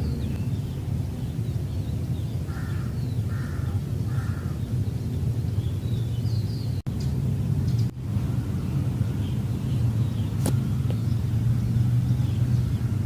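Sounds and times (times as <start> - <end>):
bird calling: 0.0 - 13.0
small birds chirping: 0.0 - 13.0.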